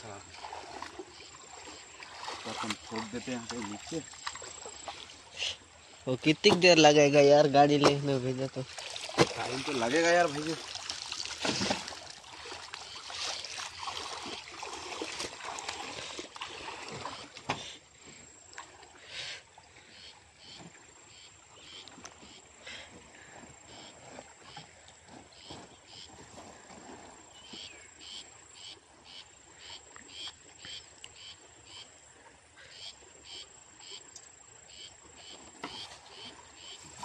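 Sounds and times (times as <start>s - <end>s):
splashing in shallow water: 0.0s - 34.1s, 35.0s - 37.0s
insects chirping: 0.0s - 37.0s.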